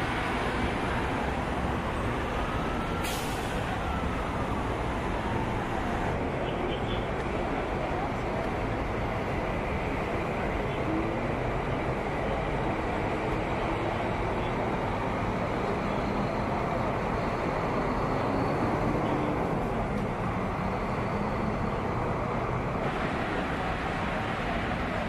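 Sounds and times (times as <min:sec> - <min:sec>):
slow traffic rumble: 0:00.0 - 0:25.0.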